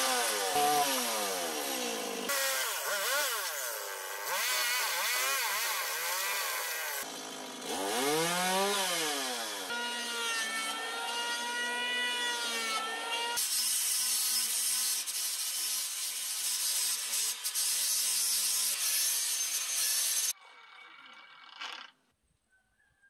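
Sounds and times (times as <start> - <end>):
chainsaw cutting log: 0.0 - 20.4
angle grinder grinding wood: 0.0 - 22.0.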